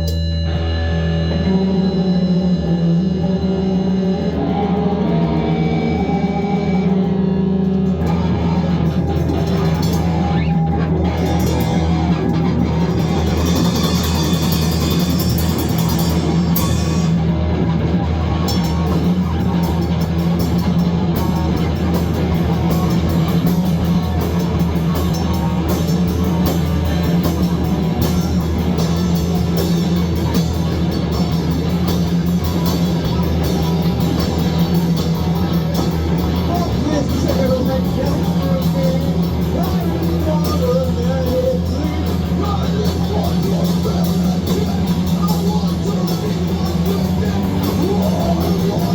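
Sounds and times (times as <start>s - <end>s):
loud rock music: 0.0s - 48.9s.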